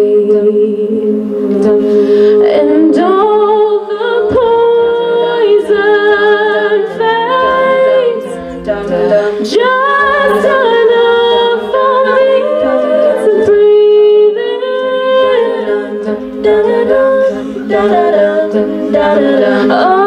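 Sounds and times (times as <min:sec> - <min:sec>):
a cappella group singing harmony: 0:00.0 - 0:20.0.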